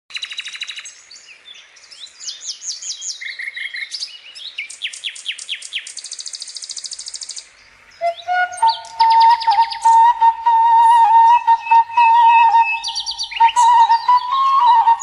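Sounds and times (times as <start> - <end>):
songbird singing trills: 0.1 - 15.0.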